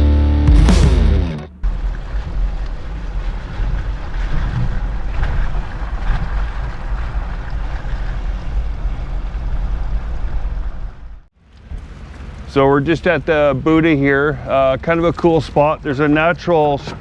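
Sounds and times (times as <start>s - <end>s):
wind buffeting microphone: 1.6s - 17.0s.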